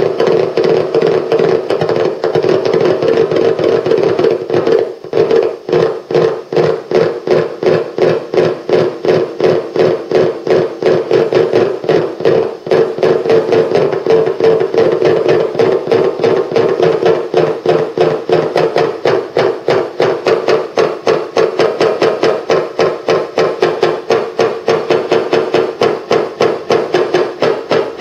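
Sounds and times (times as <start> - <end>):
even knocking beat: 0.0 - 28.0.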